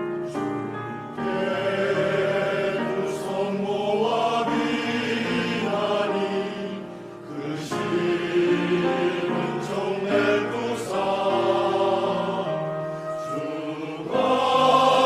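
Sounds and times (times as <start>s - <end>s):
piano accompaniment: 0.0s - 15.0s
choir singing a hymn: 0.3s - 15.0s.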